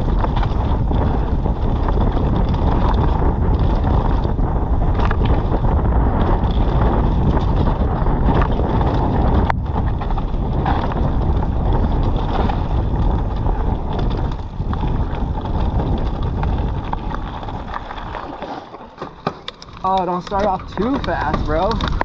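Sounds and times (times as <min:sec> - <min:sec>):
bike clattering over bumps: 0:00.0 - 0:22.0
tyres rumbling on dirt: 0:00.0 - 0:22.0
wind buffeting microphone: 0:00.0 - 0:22.0.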